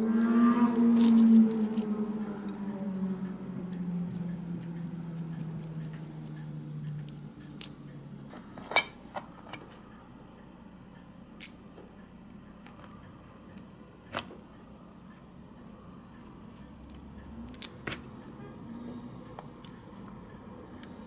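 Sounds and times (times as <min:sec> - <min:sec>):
low humming tone: 0:00.0 - 0:21.0.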